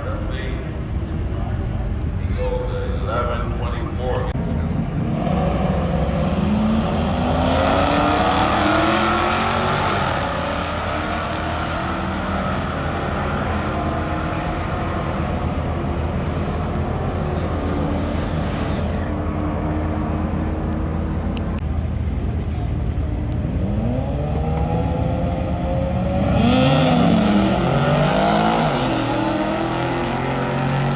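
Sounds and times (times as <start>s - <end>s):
car engine accelerating hard: 3.8s - 30.9s.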